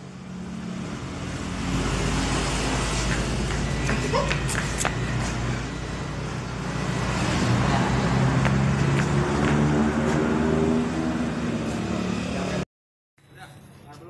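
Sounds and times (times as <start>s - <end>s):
engine revving: 0.0s - 12.6s.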